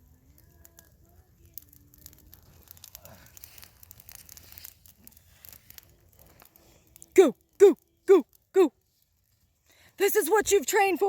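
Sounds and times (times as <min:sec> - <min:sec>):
branches crackling and rustling: 0:00.0 - 0:11.0.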